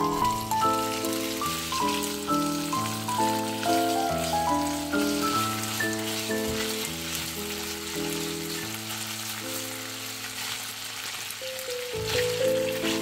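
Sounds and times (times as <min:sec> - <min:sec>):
background music: 0:00.0 - 0:09.4, 0:11.5 - 0:13.0
bacon sizzling in a pan: 0:00.0 - 0:13.0
spatula stirring in a pan: 0:00.8 - 0:13.0.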